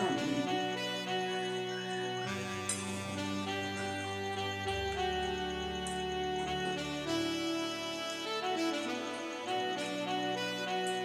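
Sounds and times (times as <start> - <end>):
soft sustained background music: 0.0 - 11.0.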